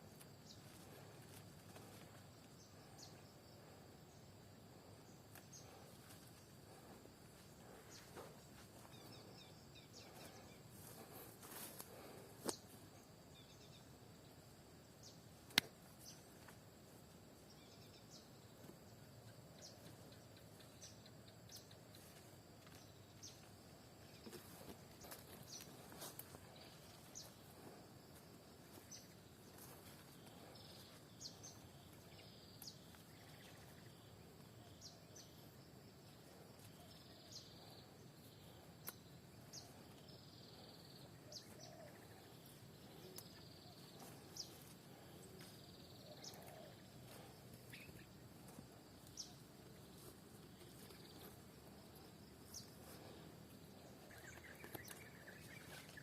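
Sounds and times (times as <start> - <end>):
faint bird chirps: 0.0 - 56.0
low steady background hush: 0.0 - 56.0.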